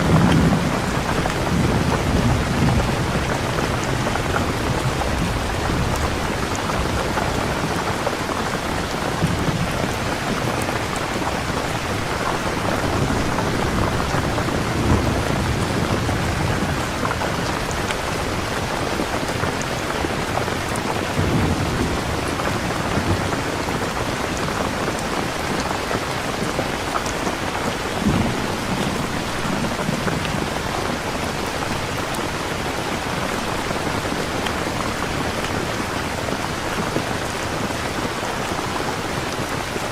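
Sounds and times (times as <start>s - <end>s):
thunder rumbling: 0.0s - 26.7s, 27.3s - 35.7s
steady rain: 0.0s - 39.9s.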